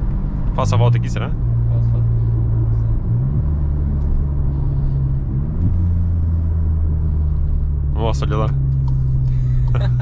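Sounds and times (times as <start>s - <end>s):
car engine loud low drone: 0.0s - 10.0s.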